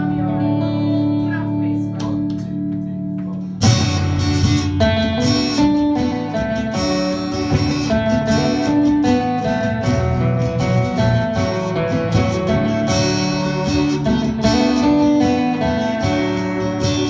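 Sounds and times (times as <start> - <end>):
acoustic guitar strumming and picking: 0.0 - 17.0.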